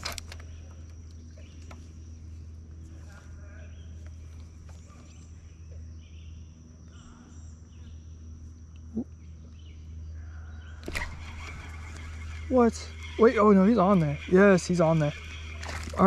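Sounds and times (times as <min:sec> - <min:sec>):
bird calls: 0:00.0 - 0:16.0
insects trilling: 0:00.0 - 0:16.0.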